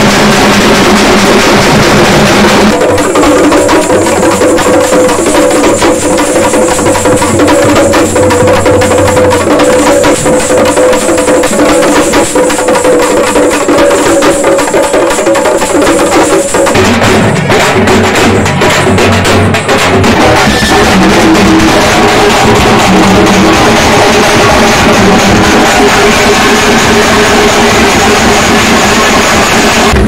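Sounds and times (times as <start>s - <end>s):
frame drums beaten fast: 0.0s - 30.0s
hand drums in rapid rhythm: 0.0s - 30.0s.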